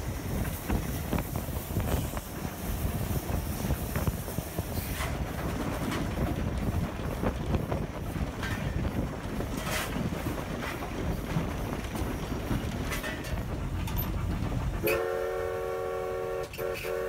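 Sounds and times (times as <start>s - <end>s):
steam train rumbling: 0.0s - 17.0s
train knocks and clatter: 0.0s - 17.0s
wind buffeting microphone: 0.0s - 17.0s.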